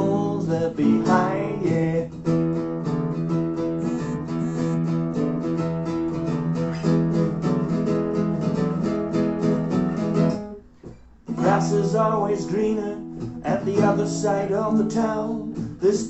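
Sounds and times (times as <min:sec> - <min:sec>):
guitars strumming chords: 0:00.0 - 0:16.0.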